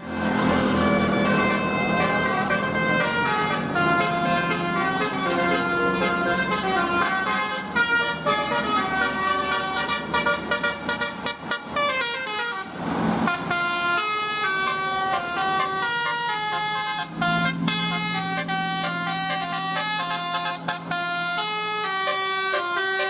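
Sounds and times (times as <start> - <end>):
multi-tone bus horn melody: 0.0 - 23.0.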